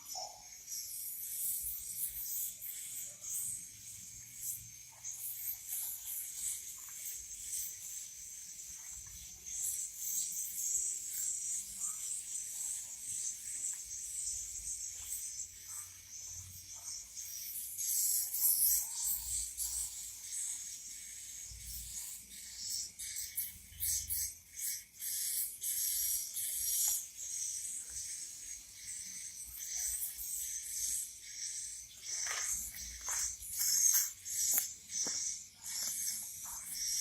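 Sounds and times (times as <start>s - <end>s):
swiftlets twittering: 0.0s - 37.0s.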